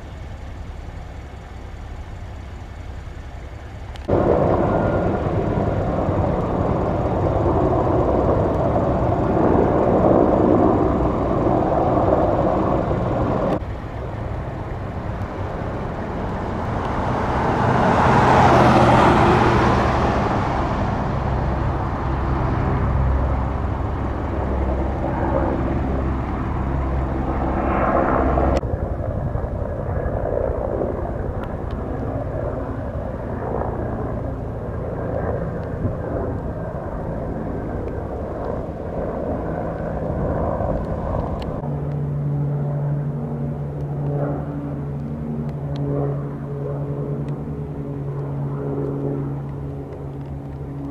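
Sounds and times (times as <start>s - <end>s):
aircraft passing overhead: 0.0s - 50.9s
helicopter drone: 0.0s - 50.9s
steady low hum: 0.0s - 50.9s.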